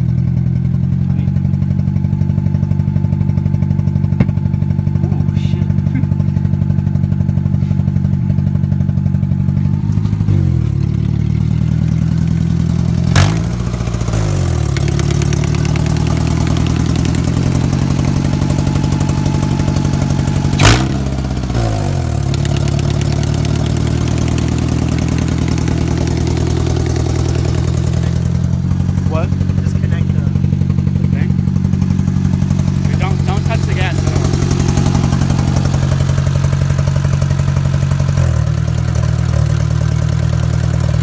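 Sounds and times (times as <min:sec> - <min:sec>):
engine idling roughly: 0:00.0 - 0:41.0
engine ticking knock: 0:00.0 - 0:41.0.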